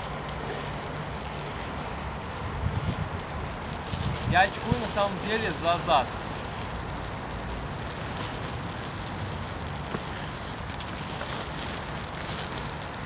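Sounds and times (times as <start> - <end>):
burning matches crackling: 0.0 - 13.0
hiss of flame: 0.0 - 13.0.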